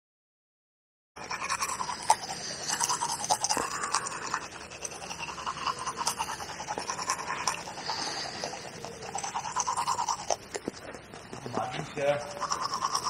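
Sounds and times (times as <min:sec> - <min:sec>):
toothbrush scrubbing teeth: 0:01.2 - 0:13.0.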